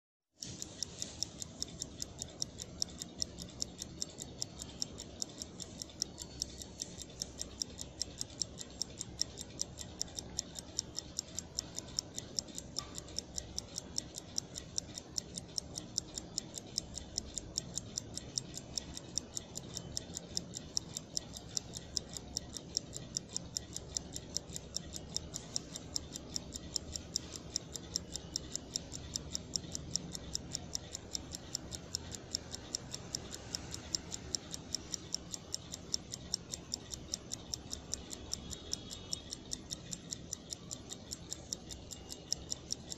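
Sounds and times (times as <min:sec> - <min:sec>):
watch ticking fast: 0:00.3 - 0:42.9.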